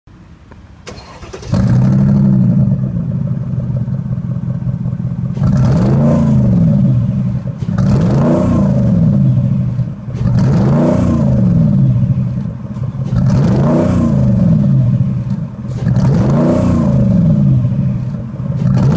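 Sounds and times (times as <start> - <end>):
car engine starting and idling: 0.1 - 18.9
engine revving: 0.9 - 18.9.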